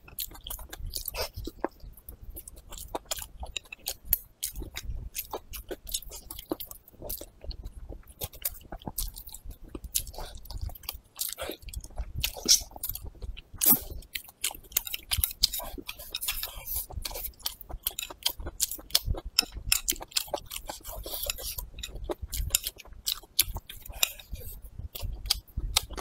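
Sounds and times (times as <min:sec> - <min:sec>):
person chewing with mouth clicks: 0:00.0 - 0:26.0.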